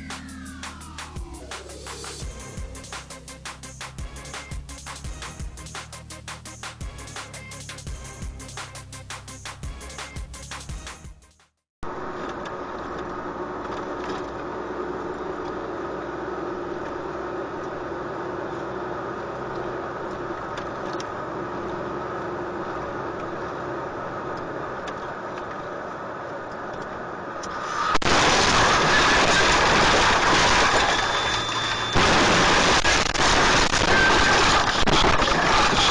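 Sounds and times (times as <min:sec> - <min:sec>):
car engine and road drone: 0:00.0 - 0:11.0, 0:11.8 - 0:35.9.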